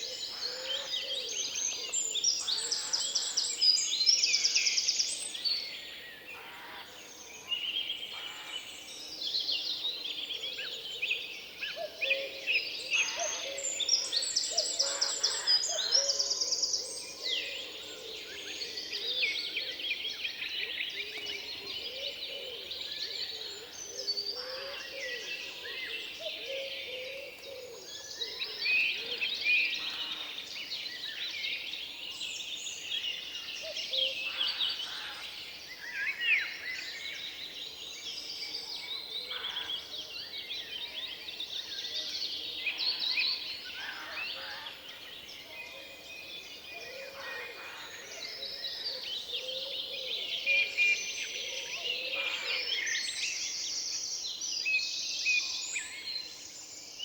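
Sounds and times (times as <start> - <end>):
songbirds singing and calling: 0.0 - 57.0
wind rustling in treetops: 0.0 - 57.0.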